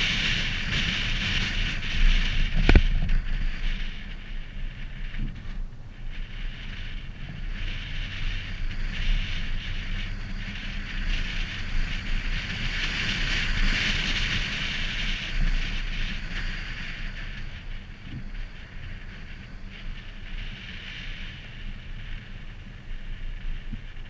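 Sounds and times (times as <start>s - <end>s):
car rumble: 0.0s - 24.0s
wind buffeting microphone: 0.0s - 24.0s.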